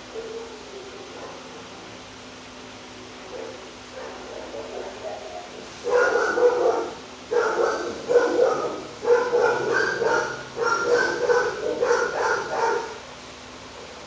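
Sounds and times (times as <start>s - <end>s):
dogs barking: 0.0s - 1.9s, 3.2s - 14.0s.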